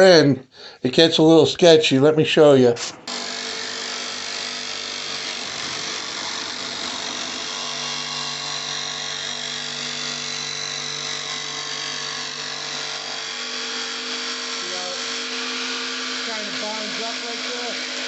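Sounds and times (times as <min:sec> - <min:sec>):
jigsaw cutting wood: 0:02.8 - 0:18.0.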